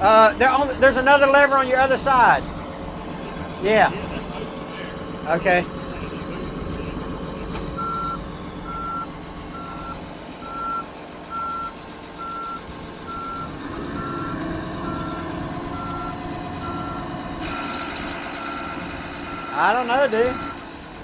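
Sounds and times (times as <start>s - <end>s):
backup alarm beeping: 0.0s - 20.6s
engine running: 0.0s - 21.0s.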